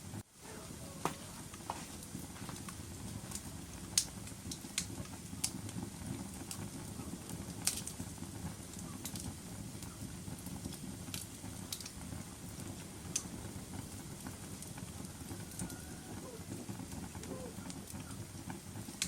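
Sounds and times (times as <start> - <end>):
low rumble of flames: 0.0 - 19.0
wood fire popping: 0.0 - 19.0.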